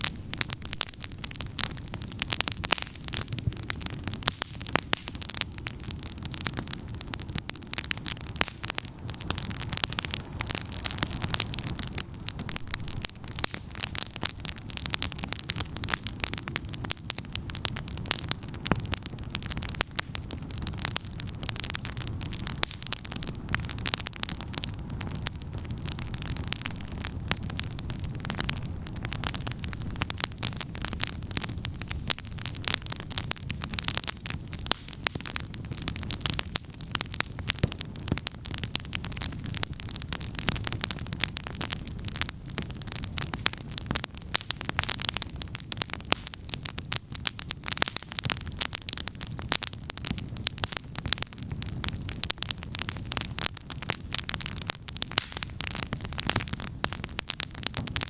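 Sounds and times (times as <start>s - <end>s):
campfire crackling and popping: 0.0s - 58.0s
low fire rumble: 0.0s - 58.0s.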